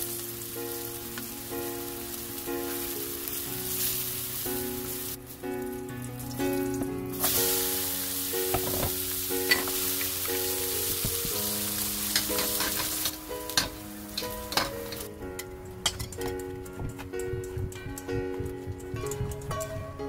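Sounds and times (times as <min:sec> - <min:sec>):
zucchini sizzling in oil: 0:00.0 - 0:19.7.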